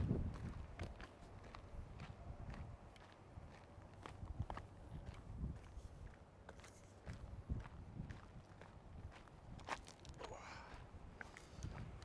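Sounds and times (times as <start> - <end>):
footsteps on rocky trail: 0.0 - 12.0.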